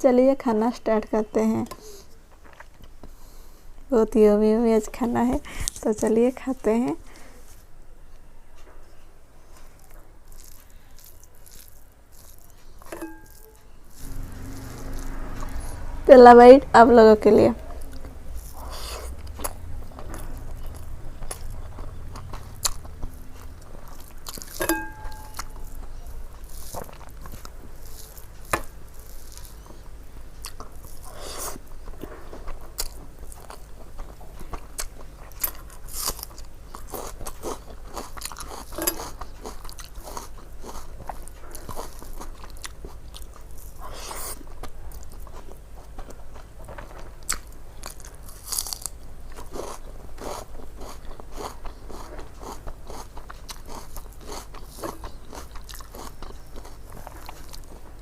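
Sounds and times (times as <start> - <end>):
person chewing with crunches: 1.8 - 3.6, 9.4 - 16.0, 17.6 - 58.0.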